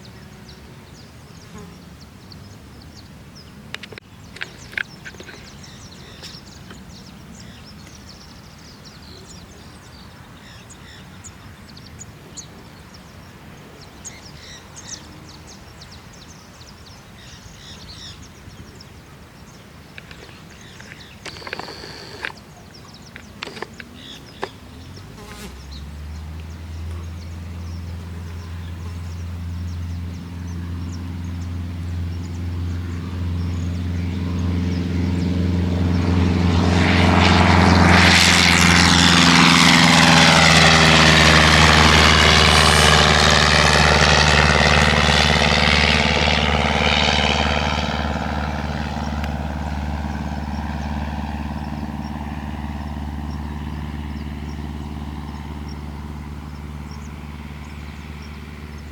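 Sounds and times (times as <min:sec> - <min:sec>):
propeller plane flying past: 0:00.0 - 0:58.9.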